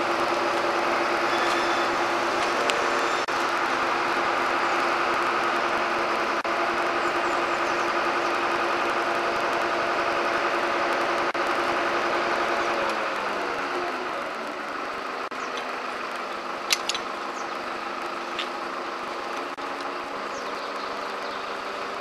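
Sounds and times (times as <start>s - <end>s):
crane truck engine humming: 0.0s - 22.0s.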